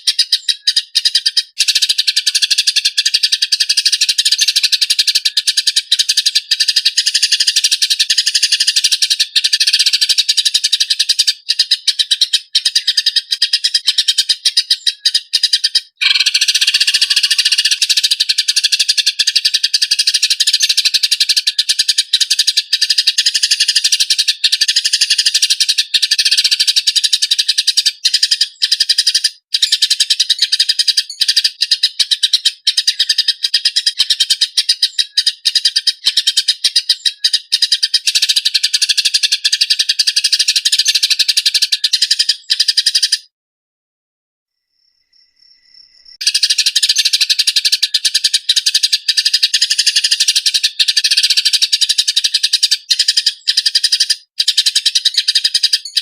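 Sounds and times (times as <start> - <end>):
sparrows chattering: 0.0 - 43.3, 45.8 - 56.0.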